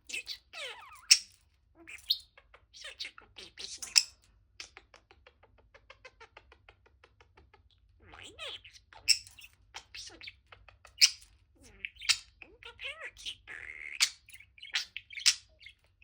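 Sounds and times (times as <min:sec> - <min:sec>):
budgie chattering: 0:00.0 - 0:15.9.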